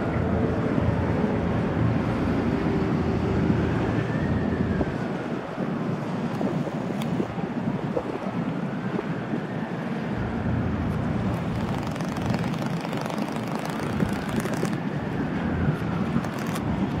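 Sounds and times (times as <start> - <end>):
choppy water: 0.1 - 17.0
wind buffeting microphone: 2.8 - 17.0.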